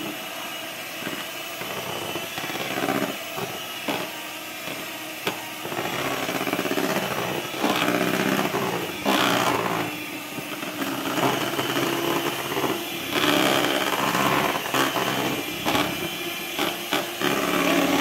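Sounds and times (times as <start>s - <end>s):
electric hand mixer whisking: 0.0s - 18.0s.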